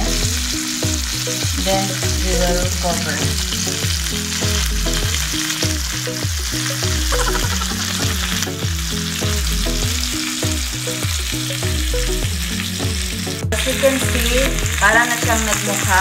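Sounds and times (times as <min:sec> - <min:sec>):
background music with bass beat: 0:00.0 - 0:13.6
chicken sizzling in a skillet: 0:00.0 - 0:16.0.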